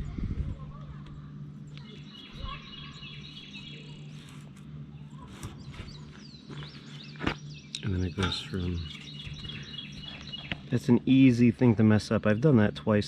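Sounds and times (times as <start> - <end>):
steady low hum: 0.0 - 13.0
birds chirping: 0.6 - 13.0.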